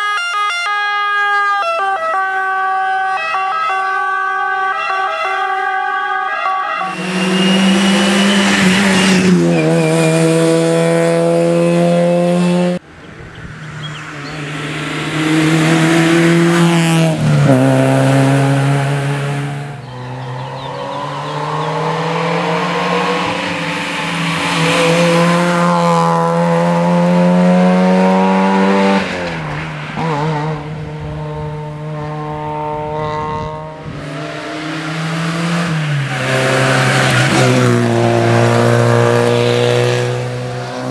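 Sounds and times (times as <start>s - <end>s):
rally car engines at high revs: 6.8s - 40.9s.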